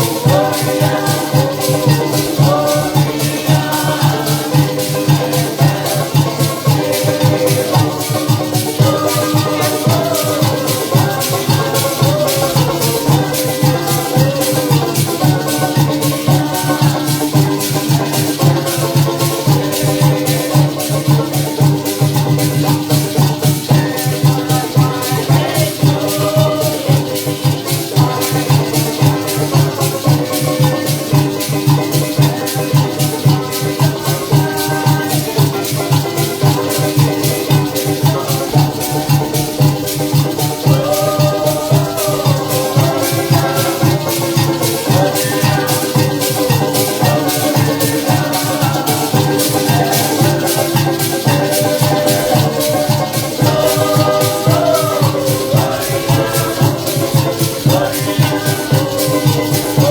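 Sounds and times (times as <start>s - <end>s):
band playing bass line and melody: 0.0s - 59.9s
maracas shaking: 0.0s - 59.9s.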